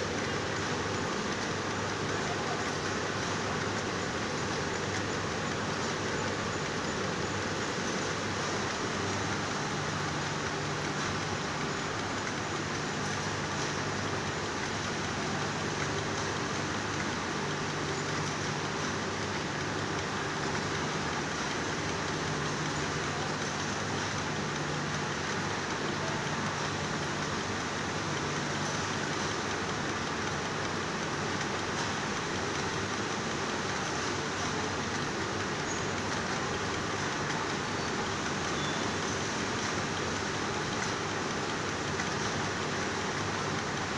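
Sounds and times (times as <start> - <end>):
yarn winding machine humming: 0.0 - 43.9.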